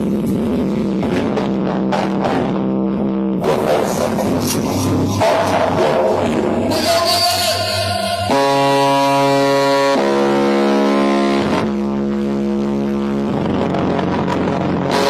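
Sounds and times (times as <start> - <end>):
loud music over sound system: 0.0 - 15.0.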